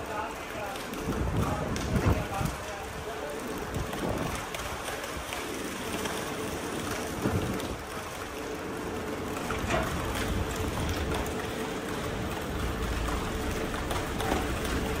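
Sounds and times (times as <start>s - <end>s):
machine hum: 0.0s - 15.0s
rushing water at dam gate: 0.0s - 15.0s.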